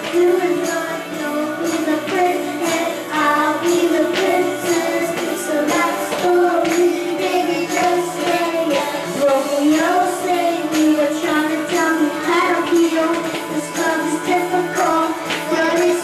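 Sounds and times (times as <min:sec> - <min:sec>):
person singing: 0:00.0 - 0:16.0
pop backing track over loudspeakers: 0:00.0 - 0:16.0.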